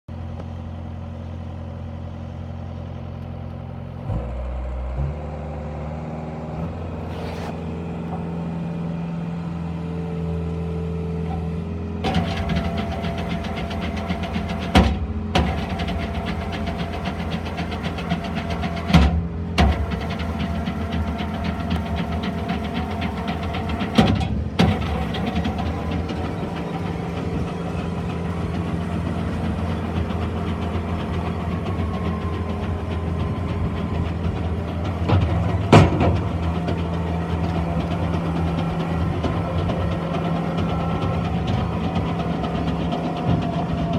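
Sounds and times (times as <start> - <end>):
skid steer loader engine: 0.1 - 43.9.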